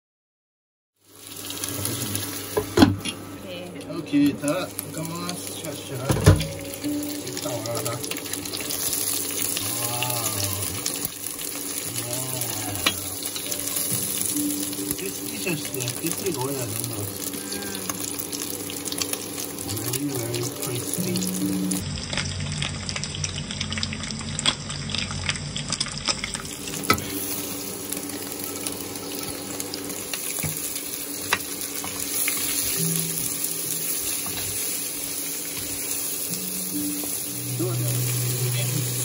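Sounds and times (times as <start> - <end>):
meat sizzling in oil: 1.0 - 39.0.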